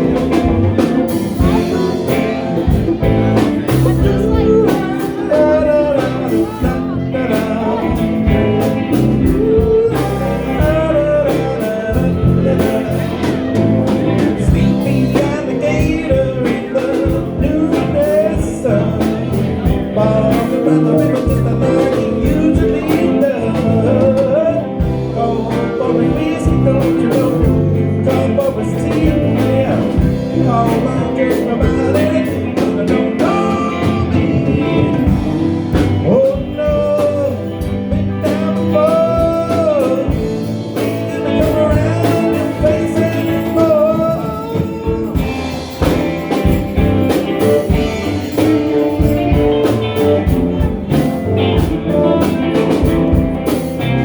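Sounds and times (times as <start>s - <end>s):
band playing blues tune: 0.0s - 54.0s
person singing: 0.0s - 54.0s.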